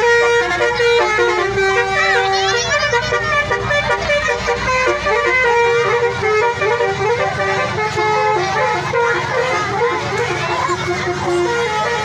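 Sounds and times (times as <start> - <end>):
multi-tone musical bus horn: 0.0 - 12.0.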